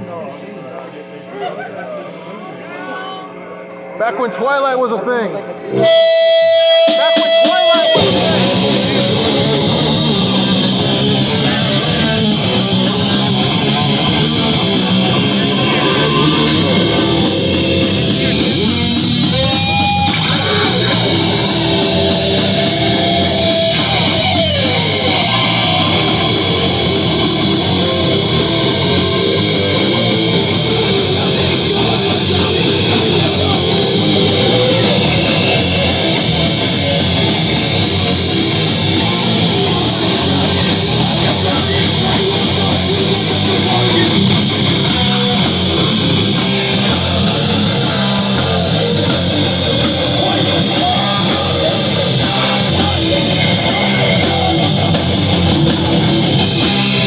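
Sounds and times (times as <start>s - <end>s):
heavy rock band playing: 5.7s - 57.0s.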